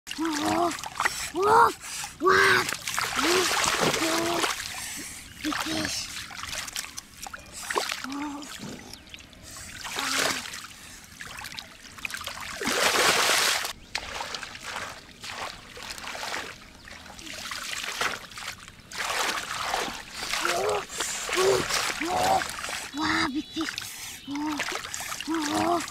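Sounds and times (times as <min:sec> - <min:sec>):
muddy water splashing: 0:00.1 - 0:25.9.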